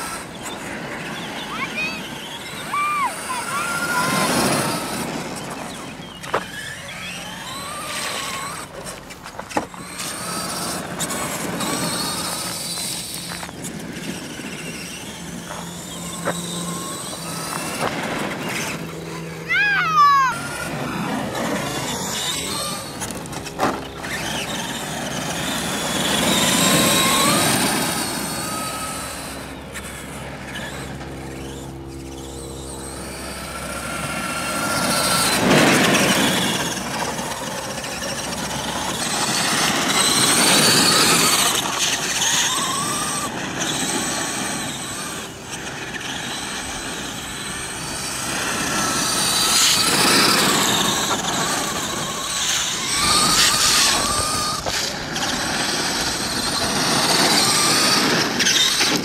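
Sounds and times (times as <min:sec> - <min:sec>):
toy truck motor whine: 0:00.0 - 0:59.0
tyres on gravel: 0:00.0 - 0:59.0.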